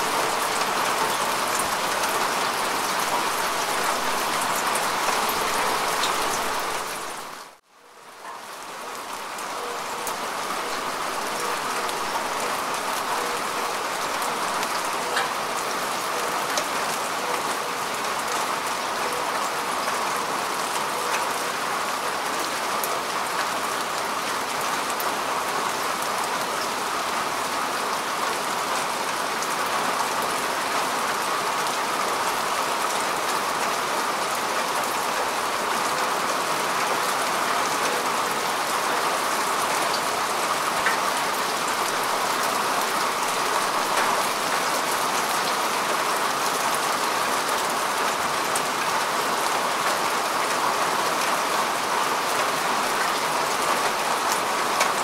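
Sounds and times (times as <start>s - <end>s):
rain falling on grass: 0.0s - 55.0s.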